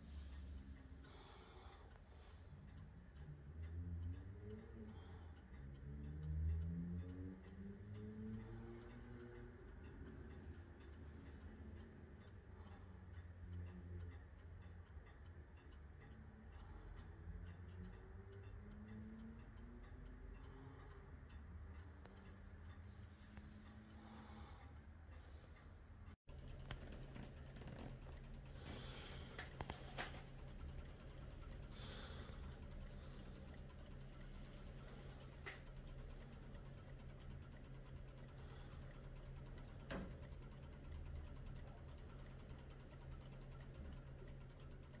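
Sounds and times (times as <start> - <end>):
mantel clock ticking: 0.0 - 45.0.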